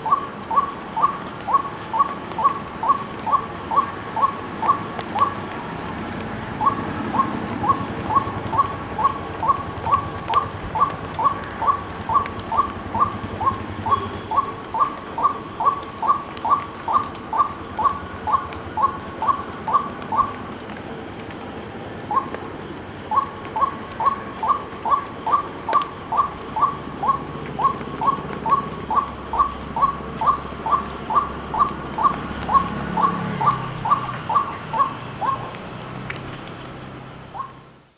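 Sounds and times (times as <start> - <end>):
waterhen calling: 0.0 - 5.4, 6.6 - 20.5, 23.1 - 35.6.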